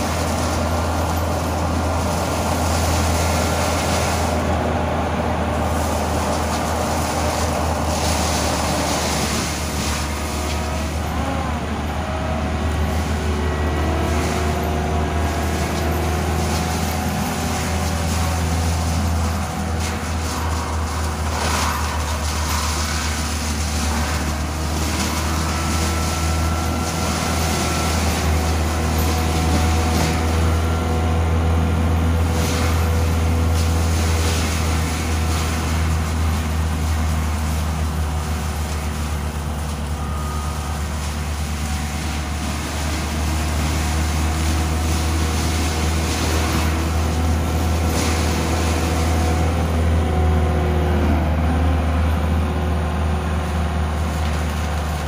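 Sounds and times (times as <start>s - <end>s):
brush going through mulcher: 0.0s - 55.0s
diesel engine droning under load: 0.0s - 55.0s.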